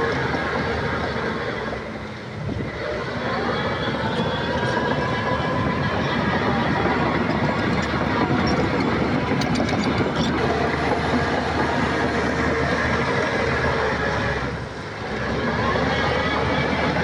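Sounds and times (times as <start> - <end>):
bulldozer diesel engine: 0.0 - 17.0
metallic clatter of steel tracks: 0.0 - 17.0.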